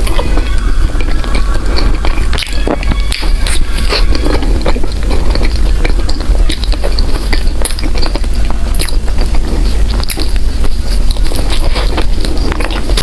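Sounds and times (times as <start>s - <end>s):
chewing soft bread: 0.0s - 13.0s.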